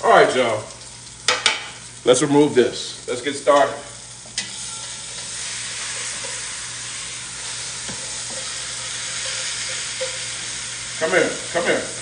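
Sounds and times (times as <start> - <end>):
meat sizzling in hot fat: 0.0 - 12.0.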